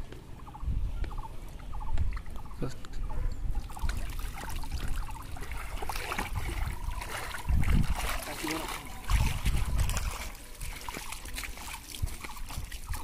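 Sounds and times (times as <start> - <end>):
water sloshing and trickling: 1.1 - 13.0
water splashing and dripping: 1.4 - 2.8, 3.4 - 13.0.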